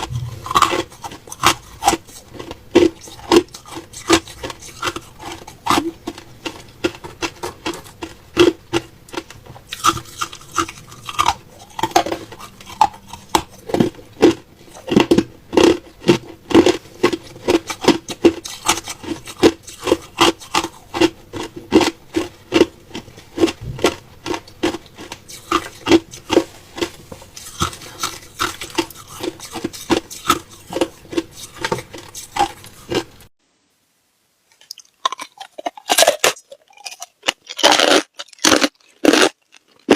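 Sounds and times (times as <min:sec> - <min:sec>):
ice being chewed: 0:00.0 - 0:33.3, 0:34.6 - 0:39.9.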